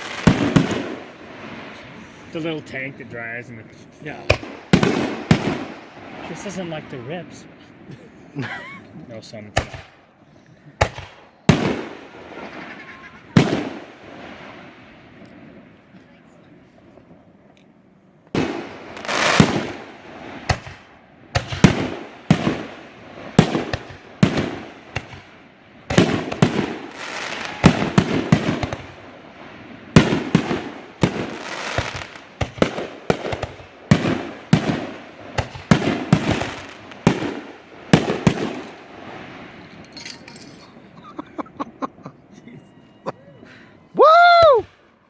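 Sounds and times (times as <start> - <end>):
fireworks exploding: 0.0 - 17.2, 18.2 - 39.8.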